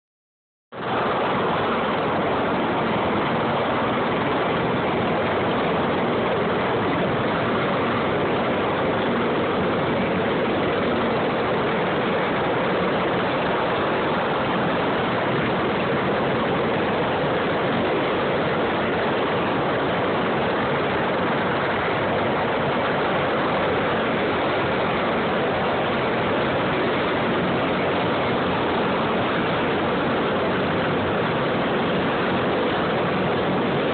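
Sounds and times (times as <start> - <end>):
helicopter turbine and rotor noise: 0.8 - 33.9.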